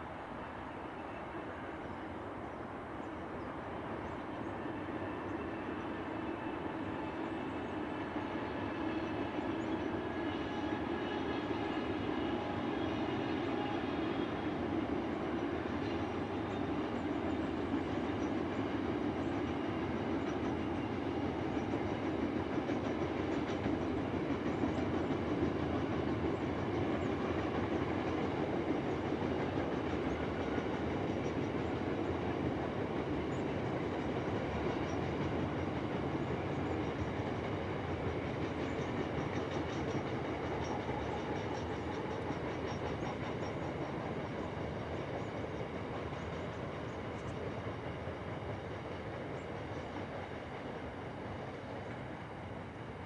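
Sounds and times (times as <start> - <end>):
freight train wheel rumble: 0.0 - 53.0.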